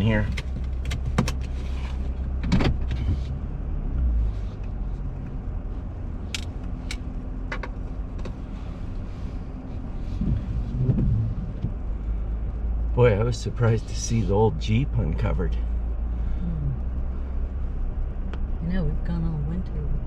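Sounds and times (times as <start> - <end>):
engine low hum inside cab: 0.0 - 20.0.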